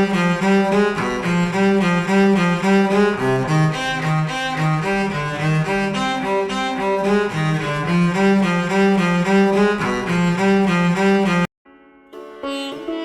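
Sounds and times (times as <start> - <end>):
bowed string instrument: 0.0 - 13.0
plucked instrument notes: 0.0 - 13.0.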